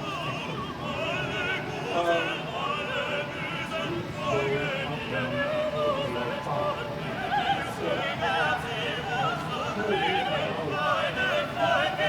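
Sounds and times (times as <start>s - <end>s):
operatic singing with vibrato: 0.0s - 12.0s.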